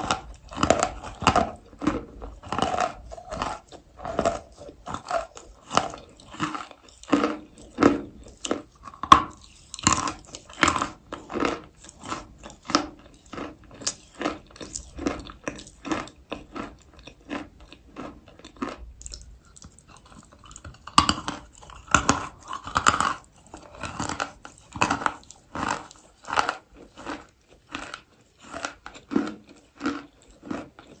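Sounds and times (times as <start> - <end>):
person crunching chalk: 0.0 - 19.2, 19.9 - 31.0.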